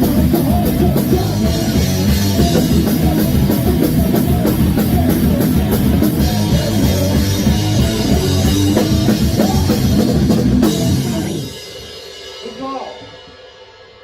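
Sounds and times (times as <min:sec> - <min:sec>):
distorted electric guitars: 0:00.0 - 0:14.0
pounding drum kit: 0:00.0 - 0:14.0.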